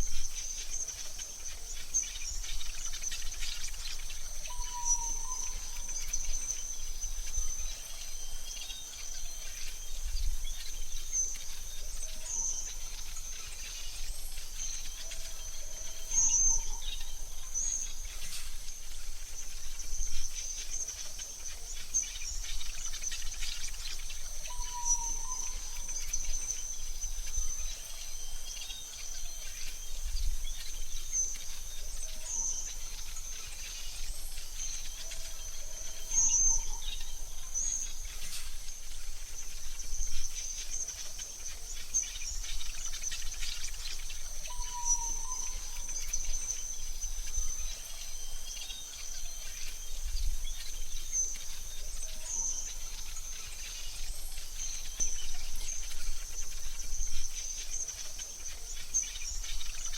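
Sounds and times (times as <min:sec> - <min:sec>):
bird chirps and warbles: 0:00.0 - 0:59.9
high insect trill: 0:00.0 - 0:59.9.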